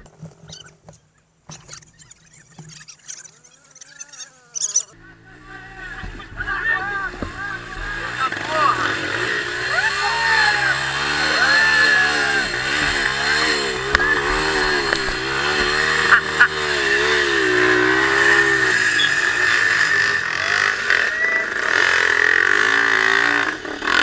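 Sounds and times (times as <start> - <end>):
motorcycle engine revving hard: 4.7 - 24.0.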